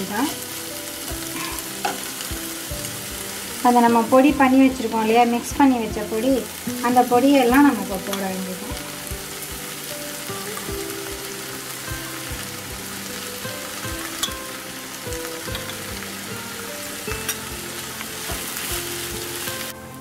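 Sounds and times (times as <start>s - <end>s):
okra sizzling in oil: 0.0s - 20.0s.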